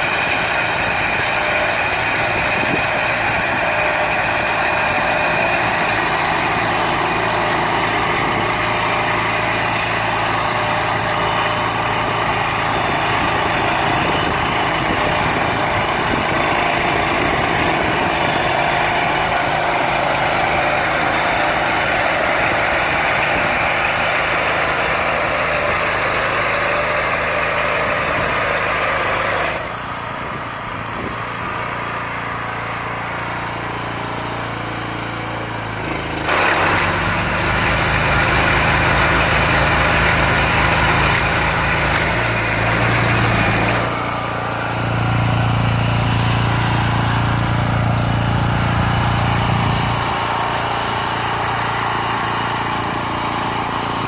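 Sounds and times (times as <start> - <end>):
small petrol engine running: 0.0 - 54.0.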